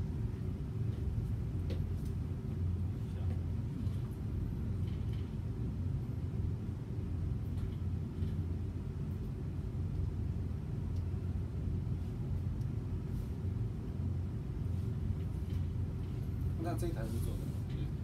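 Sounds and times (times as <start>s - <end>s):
low room noise rumble: 0.0s - 18.0s.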